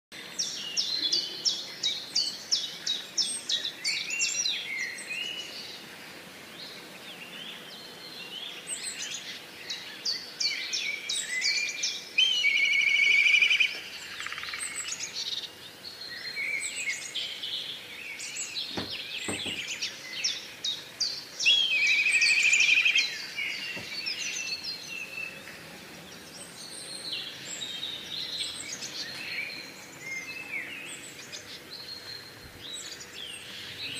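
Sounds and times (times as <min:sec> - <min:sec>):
songbirds chirping and whistling: 0:00.2 - 0:33.9.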